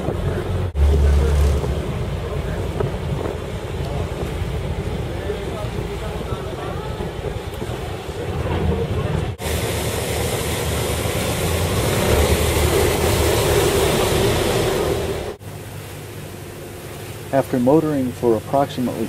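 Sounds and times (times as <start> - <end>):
boat engines running: 0.0 - 19.0
water rushing from wakes: 0.0 - 19.0.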